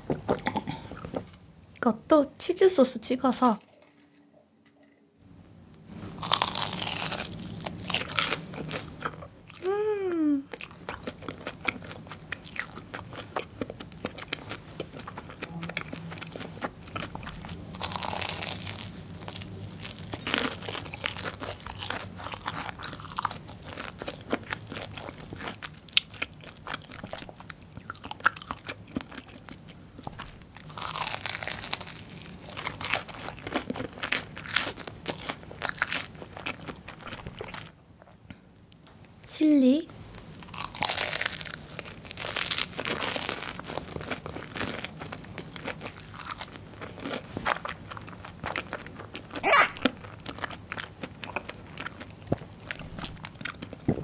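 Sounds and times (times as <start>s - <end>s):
crunchy food chewing: 5.6s - 9.7s, 10.5s - 39.0s, 40.2s - 54.0s.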